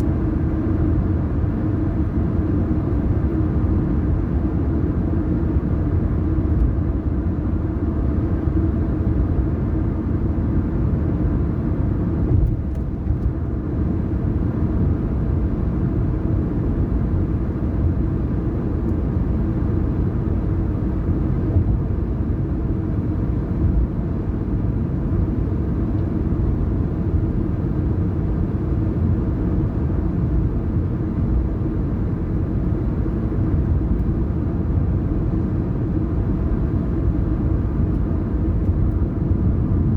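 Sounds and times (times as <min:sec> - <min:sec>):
car driving road noise: 0:00.0 - 0:39.9.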